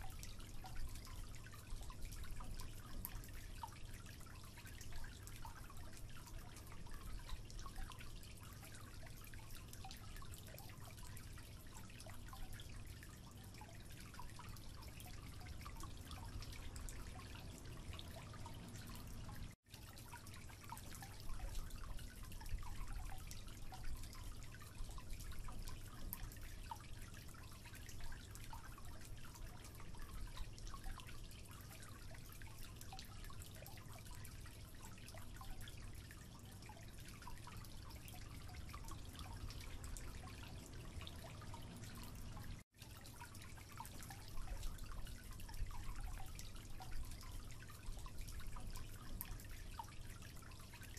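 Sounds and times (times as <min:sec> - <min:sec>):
low steady hiss: 0:00.0 - 0:50.9
water dripping into sink: 0:00.0 - 0:50.9.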